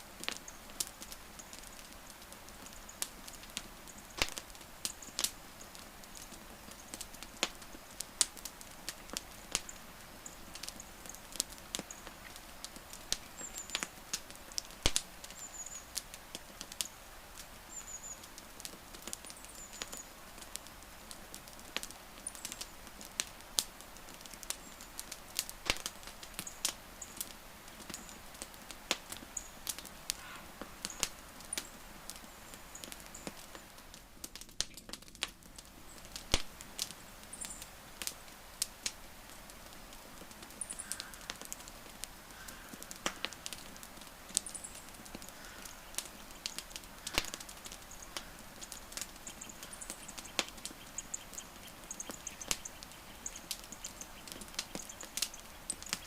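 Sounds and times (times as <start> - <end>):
soft steady hiss: 0.0 - 56.0
wood fire crackling: 0.0 - 56.0.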